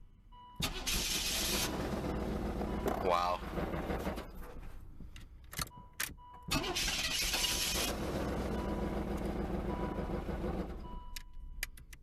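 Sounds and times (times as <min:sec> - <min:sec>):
car engine starting and idling: 0:00.2 - 0:12.0.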